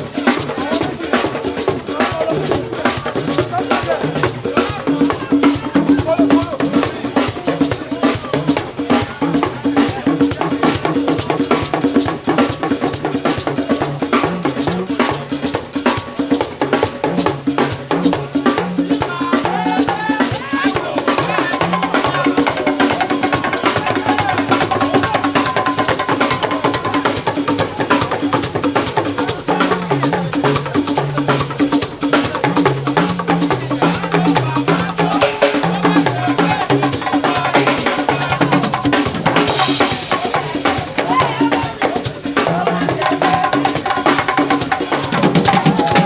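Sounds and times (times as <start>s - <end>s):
band music with steady beat: 0.0s - 46.0s.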